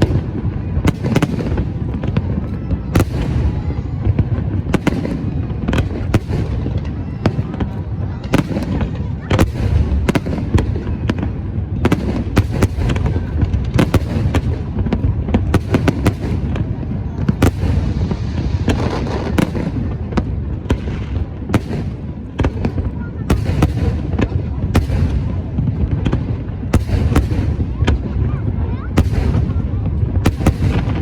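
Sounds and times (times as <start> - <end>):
fireworks bangs and cracks: 0.0 - 31.0.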